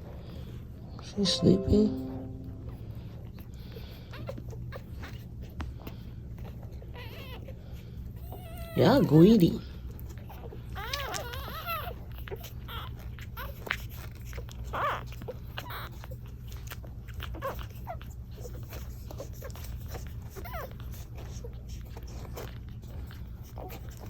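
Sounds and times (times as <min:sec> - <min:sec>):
puppies sucking and clicking: 0:03.8 - 0:24.0.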